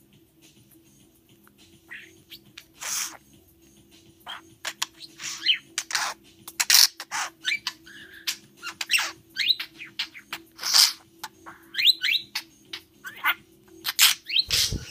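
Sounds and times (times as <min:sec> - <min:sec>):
high bird chirps: 0:01.9 - 0:03.3, 0:04.2 - 0:14.9.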